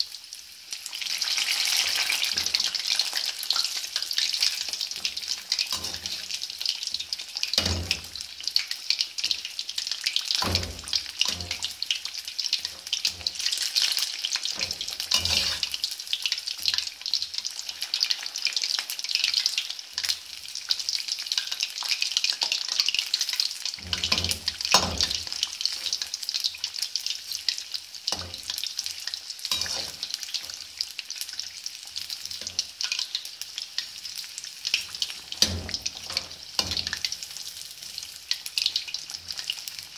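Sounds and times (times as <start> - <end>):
fish deep-frying in hot oil: 0.0 - 39.9.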